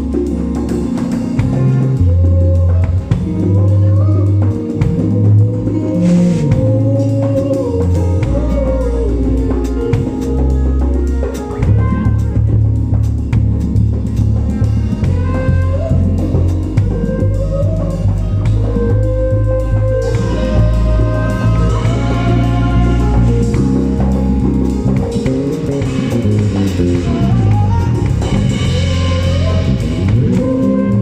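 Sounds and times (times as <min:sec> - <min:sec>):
drum kit: 0:00.0 - 0:31.0
gliding lead melody: 0:00.0 - 0:31.0
heavy bass line: 0:00.0 - 0:31.0.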